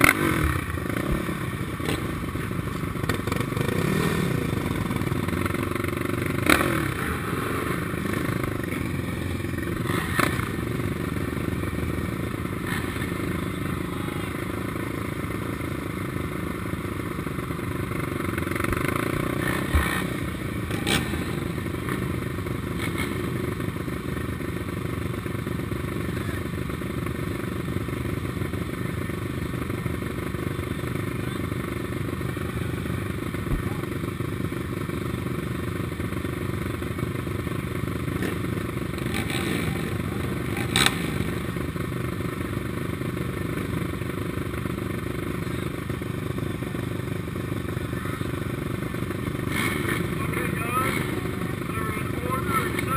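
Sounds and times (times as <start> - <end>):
other quad bikes idling: 0.0 - 52.9
quad bike engine idling: 0.0 - 52.9.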